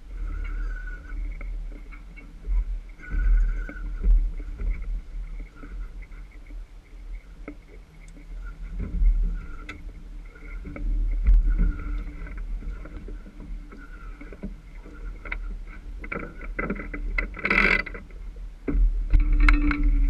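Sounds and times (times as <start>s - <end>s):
faint hum: 0.0s - 20.0s
water along the hull: 0.0s - 20.0s
wind buffeting: 0.0s - 20.0s.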